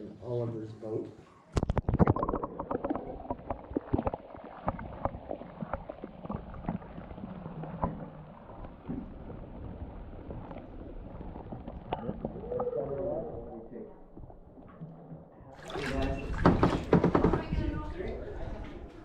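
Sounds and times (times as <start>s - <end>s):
water splashing and lapping: 1.6s - 19.0s.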